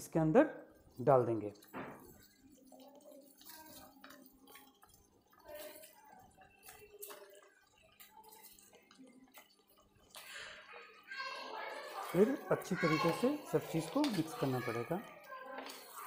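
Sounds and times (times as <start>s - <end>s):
crackling in a wok: 0.0s - 16.0s.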